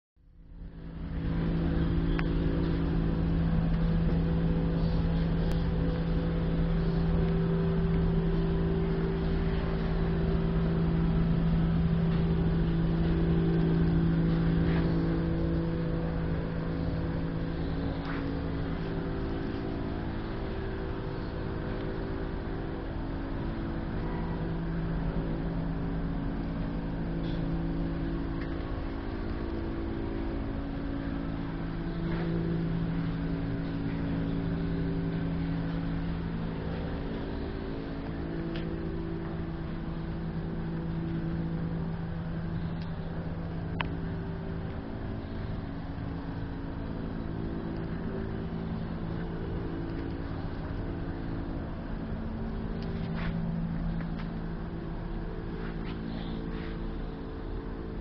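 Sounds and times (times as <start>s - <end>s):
low machine rumble: 0.2s - 58.0s
machine humming: 0.2s - 58.0s.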